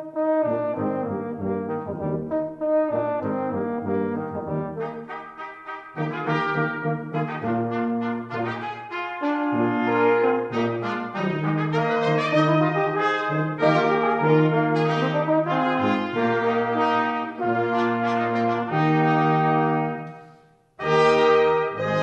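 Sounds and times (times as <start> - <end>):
brass band playing: 0.0 - 20.2, 20.8 - 22.0.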